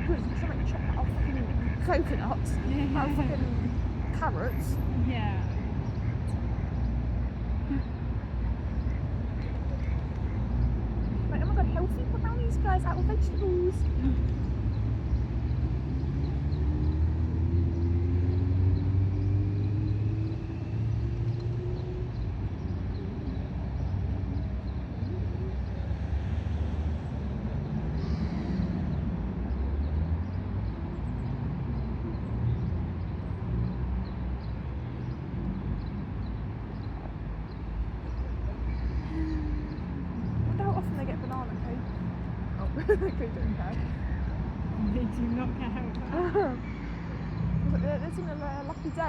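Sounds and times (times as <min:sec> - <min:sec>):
traffic rumble: 0:00.0 - 0:49.0.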